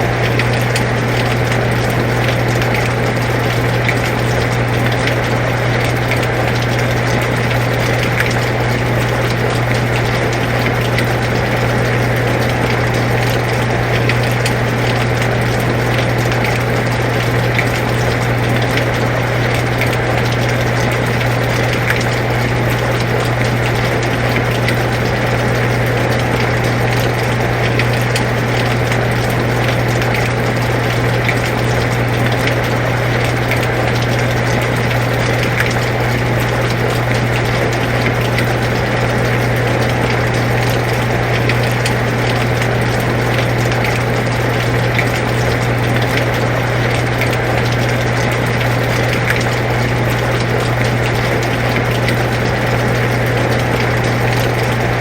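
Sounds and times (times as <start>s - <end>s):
air conditioner humming: 0.0s - 55.0s
steady rainfall: 0.0s - 55.0s.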